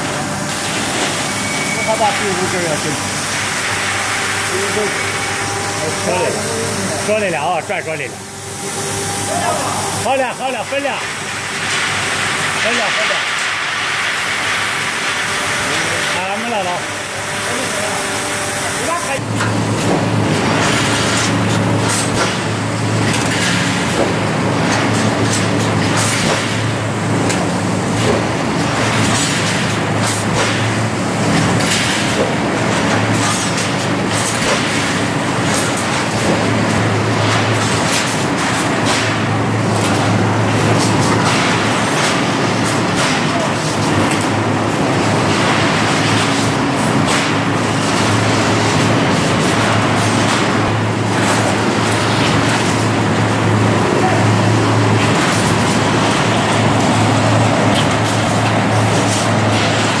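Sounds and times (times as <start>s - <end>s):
general machine noise: 0.0s - 60.0s
welding machine electrical hum: 0.0s - 60.0s.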